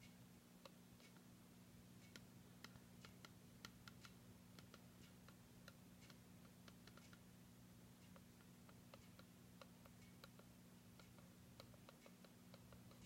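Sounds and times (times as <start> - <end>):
faint light ticks and clicks: 0.0 - 13.0.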